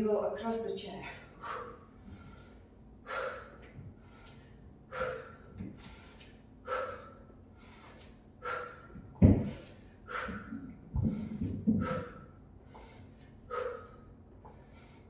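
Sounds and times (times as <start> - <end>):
woman breathing sharply: 1.2 - 15.0.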